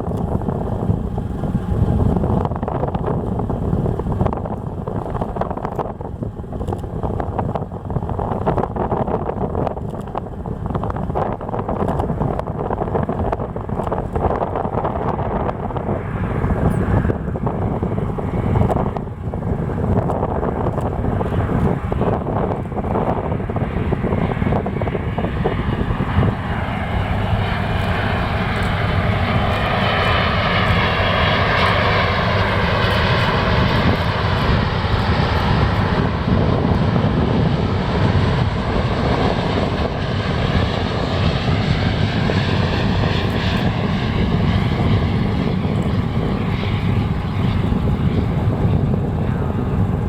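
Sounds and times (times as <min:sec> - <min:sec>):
jet airliner passing overhead: 0:00.0 - 0:50.0
jet engine whine: 0:00.0 - 0:50.0.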